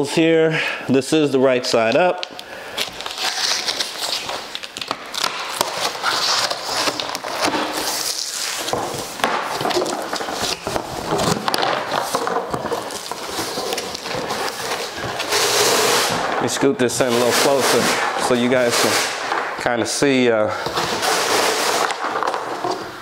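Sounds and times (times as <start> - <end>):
cardboard scraping and rustling: 2.8 - 19.5, 20.6 - 23.0.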